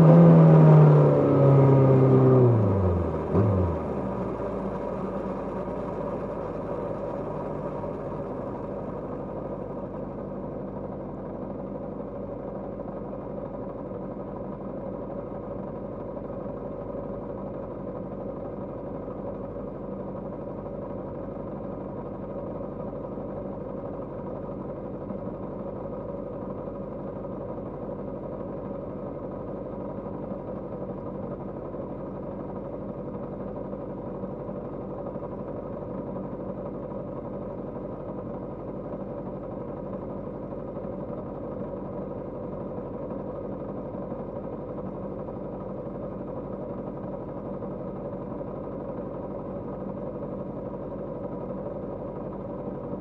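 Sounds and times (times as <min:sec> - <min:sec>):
motorcycle engine running steadily: 0:00.0 - 0:53.0.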